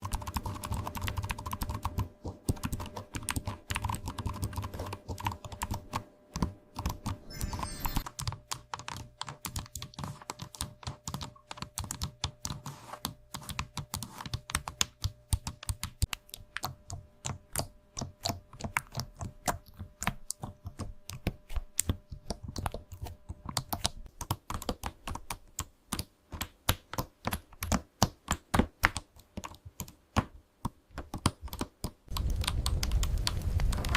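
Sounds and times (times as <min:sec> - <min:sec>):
computer keyboard typing: 0:00.0 - 0:33.9.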